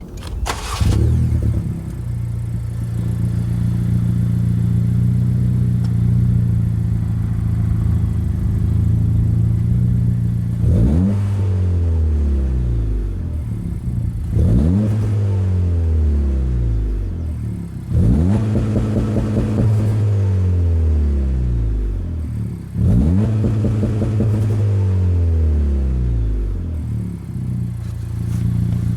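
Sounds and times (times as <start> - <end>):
car engine running and revving: 0.0 - 28.9.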